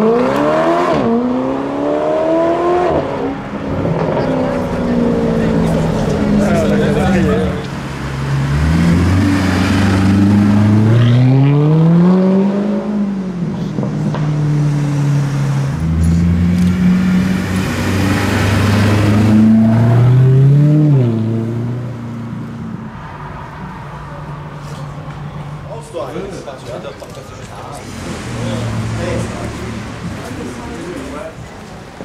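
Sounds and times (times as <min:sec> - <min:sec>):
car engine accelerating: 0:00.0 - 0:22.8, 0:27.7 - 0:31.6.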